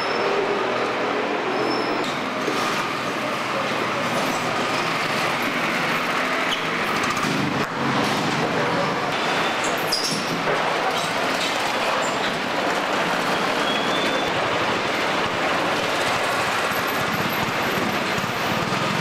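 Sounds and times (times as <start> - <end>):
traffic din: 0.0 - 19.0.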